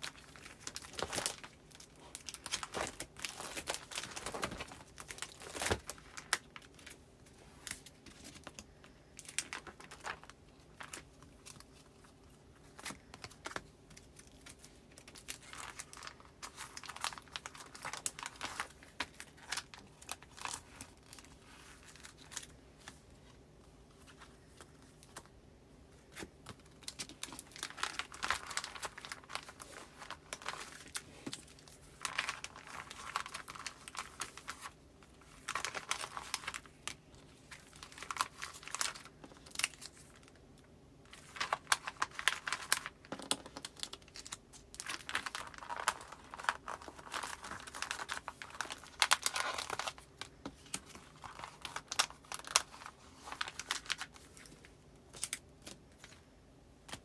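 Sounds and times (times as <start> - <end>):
paper crinkling and rustling: 0.0 - 40.4, 41.0 - 57.0.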